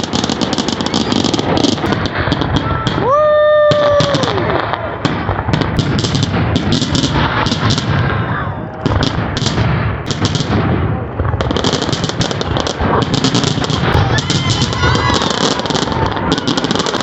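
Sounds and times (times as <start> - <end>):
fireworks crackling pops: 0.0 - 17.0.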